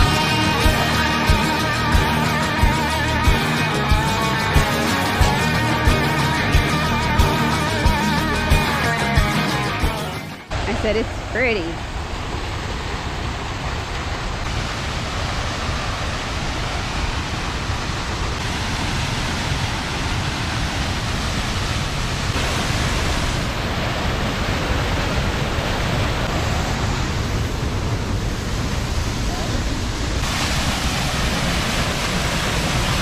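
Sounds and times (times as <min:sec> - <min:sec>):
waterfall roaring: 0:00.0 - 0:33.0.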